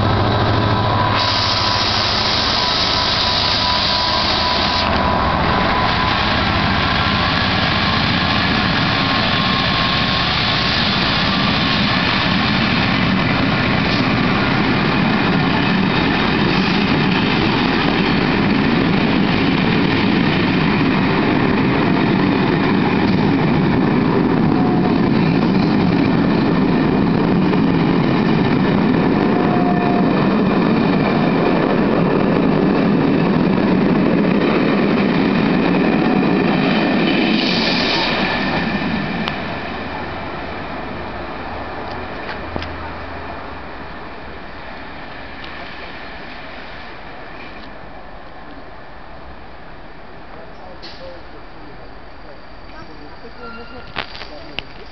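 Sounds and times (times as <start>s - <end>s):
locomotive engine whine: 0.0s - 54.9s
train coaches rumbling on rails: 0.0s - 54.9s.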